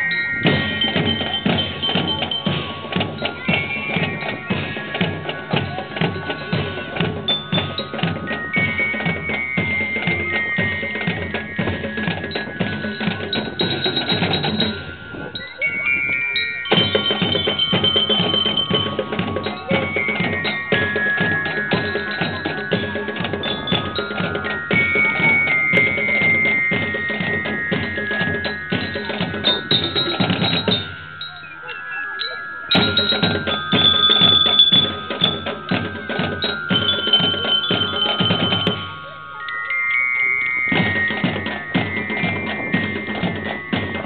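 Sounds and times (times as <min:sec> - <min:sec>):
marching drumbeat: 0:00.0 - 0:15.2, 0:16.6 - 0:31.4, 0:32.7 - 0:39.2, 0:40.5 - 0:44.0
glockenspiel melody: 0:00.0 - 0:44.0.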